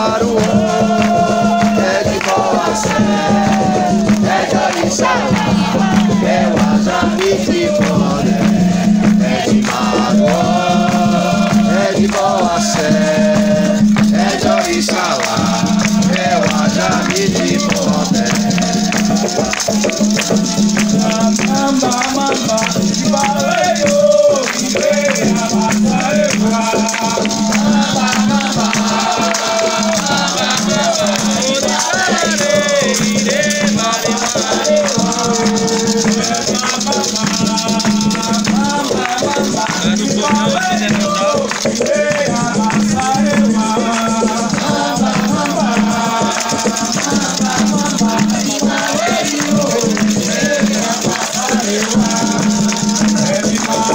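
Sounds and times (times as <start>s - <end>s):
rattles shaking: 0.0s - 53.9s
voices singing a chant: 0.0s - 53.9s.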